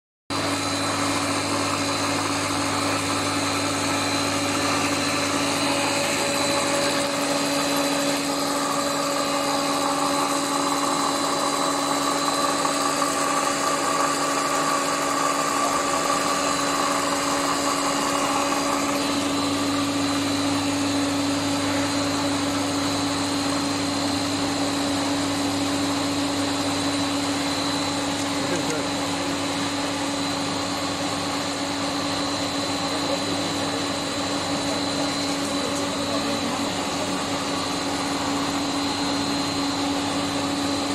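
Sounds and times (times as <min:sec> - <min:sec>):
extrusion machine drone and whine: 0:00.3 - 0:40.9.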